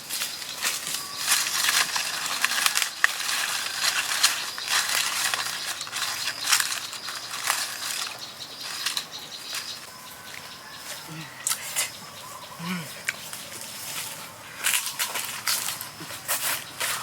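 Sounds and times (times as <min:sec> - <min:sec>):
crunching and crackling: 0:00.0 - 0:10.8, 0:12.6 - 0:17.0.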